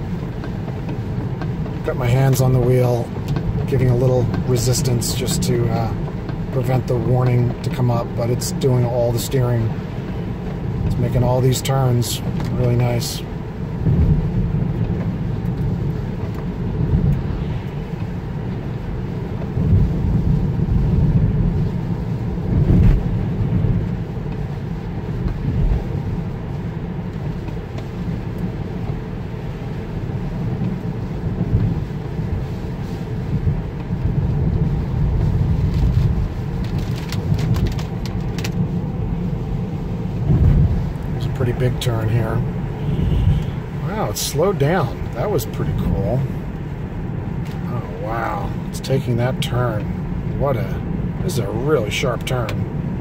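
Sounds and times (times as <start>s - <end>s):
tyre and road rumble: 0.0s - 53.0s.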